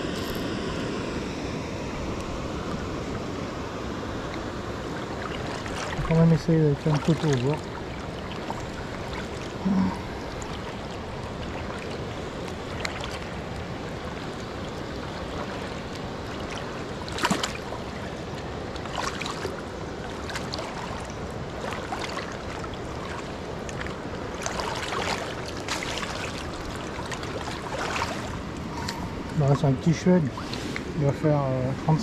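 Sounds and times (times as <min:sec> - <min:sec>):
steady rushing outdoor noise: 0:00.0 - 0:32.0.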